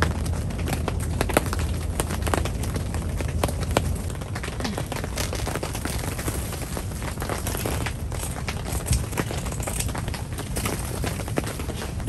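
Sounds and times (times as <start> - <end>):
fabric crinkling: 0.0 - 12.0
low rumble: 0.0 - 12.0.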